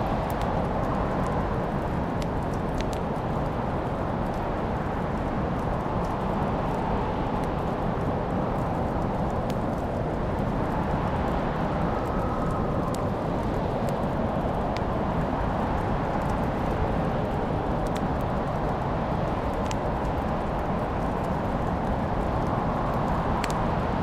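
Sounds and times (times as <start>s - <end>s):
fire crackles and pops: 0.0s - 24.0s
wood fire burning: 0.0s - 24.0s.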